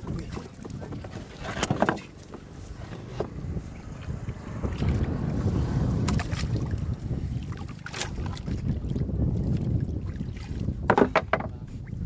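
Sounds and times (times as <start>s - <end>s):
hands in muddy water: 0.0s - 10.8s
water splashing: 0.0s - 11.1s
wind rumbling on microphone: 0.0s - 12.0s.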